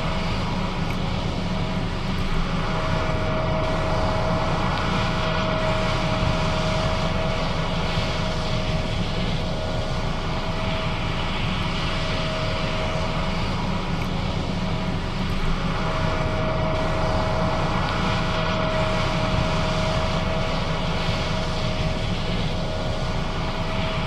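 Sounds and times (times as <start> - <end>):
high machinery whine: 0.0 - 24.0.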